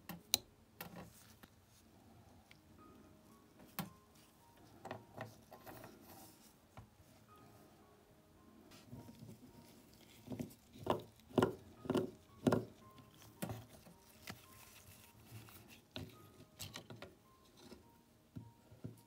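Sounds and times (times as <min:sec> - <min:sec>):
faint background music: 0:00.0 - 0:19.0.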